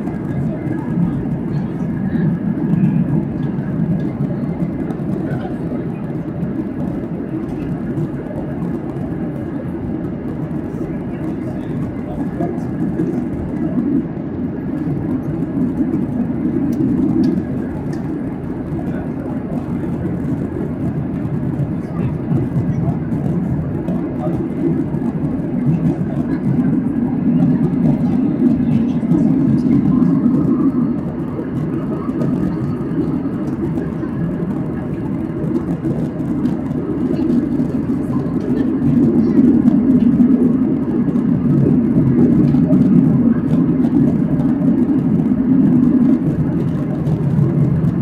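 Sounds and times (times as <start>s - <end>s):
airflow rushing past fuselage: 0.0s - 48.0s
airplane cabin engine rumble: 0.0s - 48.0s.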